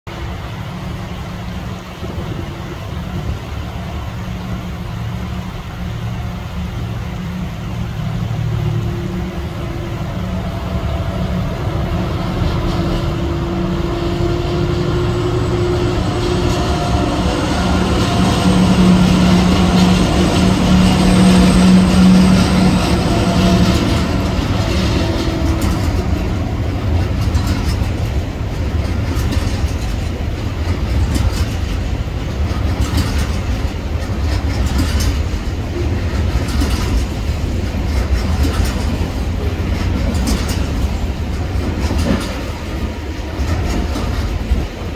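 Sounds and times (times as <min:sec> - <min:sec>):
diesel locomotive engine drone: 0:00.0 - 0:44.9
freight train passing: 0:00.0 - 0:44.9.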